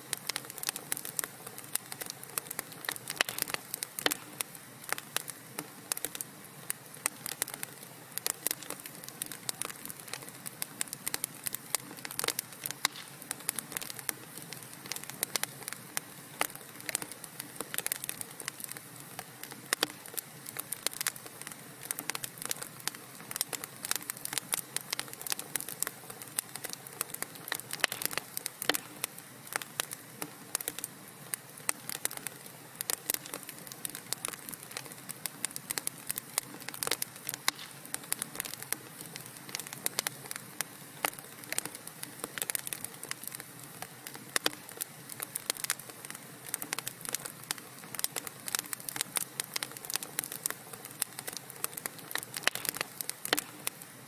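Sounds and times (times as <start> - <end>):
wood fire crackling and popping: 0.0 - 54.0
fire hissing: 0.1 - 54.0.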